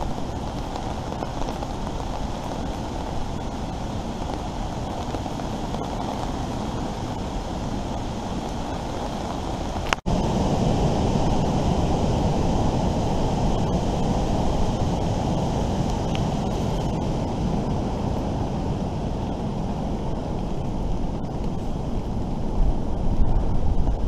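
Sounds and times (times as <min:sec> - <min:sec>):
rain: 0:00.0 - 0:24.0
wind: 0:00.0 - 0:24.0
wind buffeting microphone: 0:00.0 - 0:24.0.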